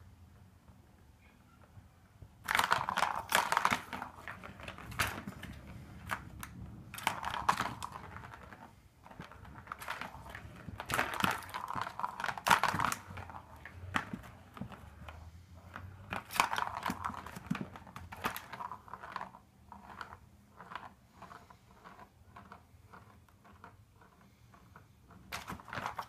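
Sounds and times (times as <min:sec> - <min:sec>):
plastic ball rattling around track: 0:02.3 - 0:26.0.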